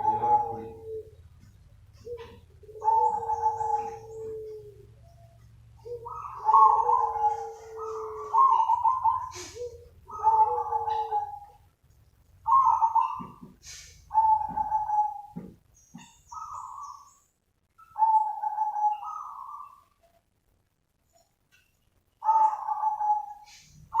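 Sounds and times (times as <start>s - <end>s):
dove cooing: 0.0s - 11.8s, 12.4s - 17.2s, 17.8s - 20.0s, 22.2s - 24.0s.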